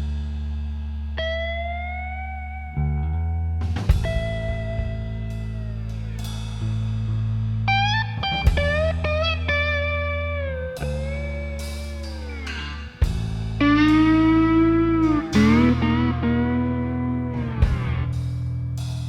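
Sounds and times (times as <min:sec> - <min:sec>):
guitar instrumental music: 0:01.2 - 0:18.8.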